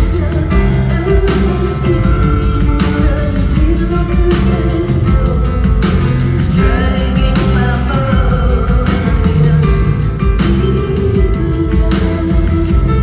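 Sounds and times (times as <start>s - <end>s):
live band playing: 0.0s - 13.0s
woman singing: 0.0s - 13.0s.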